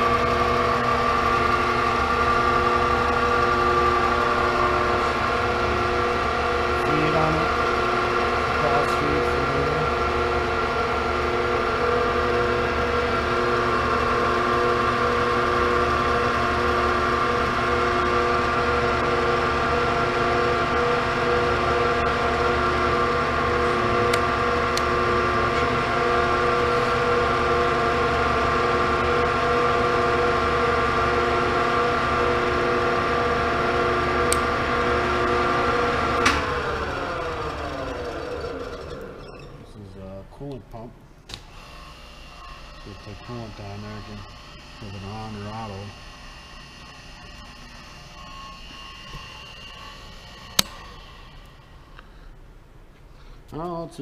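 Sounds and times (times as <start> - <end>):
lathe motor whine: 0.0 - 53.8.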